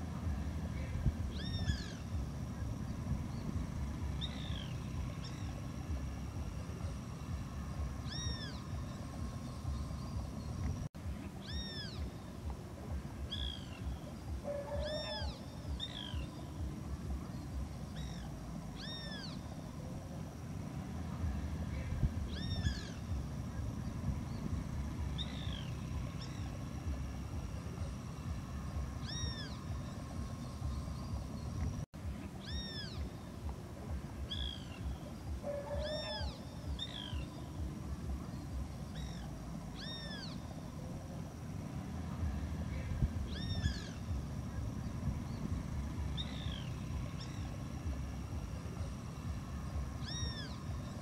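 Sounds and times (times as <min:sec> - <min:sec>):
birds mewing calls: 0:00.0 - 0:51.0
steady low rumble: 0:00.0 - 0:51.0.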